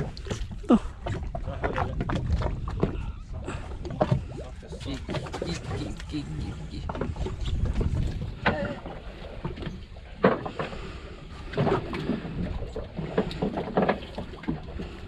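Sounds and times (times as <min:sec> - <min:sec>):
water and wind against hull: 0:00.0 - 0:15.0.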